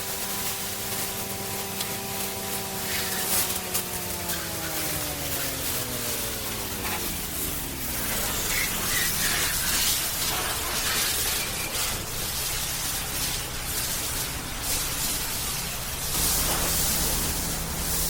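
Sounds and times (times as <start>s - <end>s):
falling whine: 0.0s - 18.0s
hose spraying water: 0.0s - 18.0s
low machine hum: 0.0s - 18.0s.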